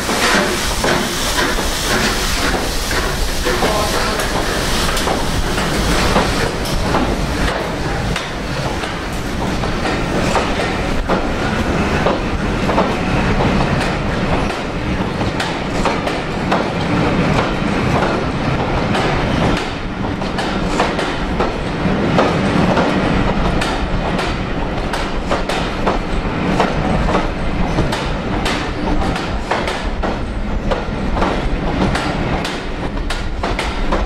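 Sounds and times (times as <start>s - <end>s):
train rolling noise: 0.0s - 34.0s
train wheels clattering over rail joints: 0.0s - 34.0s.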